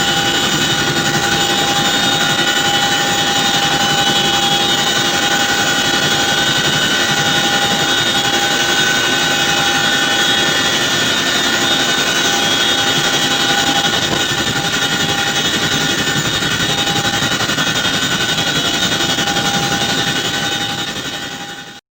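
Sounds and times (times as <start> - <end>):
helicopter cabin rushing noise: 0.0 - 21.8
helicopter rotor beat: 0.0 - 21.8
high whine: 0.0 - 21.8.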